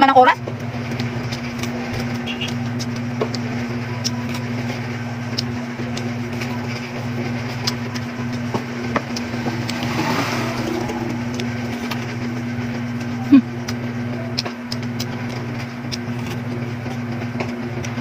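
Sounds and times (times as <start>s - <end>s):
low machine hum: 0.0s - 18.0s
biting and chewing crisp fruit: 0.4s - 10.6s, 13.0s - 18.0s.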